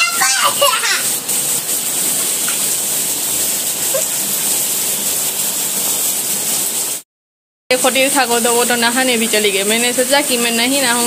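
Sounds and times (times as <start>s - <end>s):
rain on hard surfaces: 0.0s - 7.0s, 7.7s - 11.0s.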